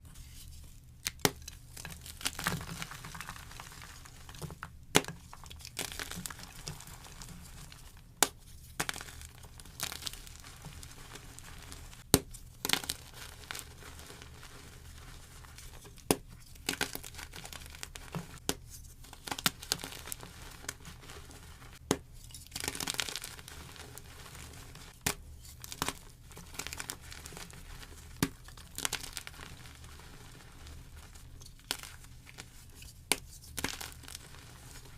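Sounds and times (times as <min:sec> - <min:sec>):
chalk crunching and crumbling: 0:00.1 - 0:34.9.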